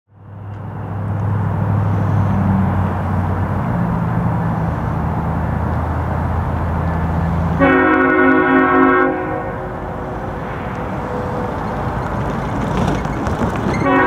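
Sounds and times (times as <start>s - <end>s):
distant diesel locomotive drone: 0.1s - 14.0s.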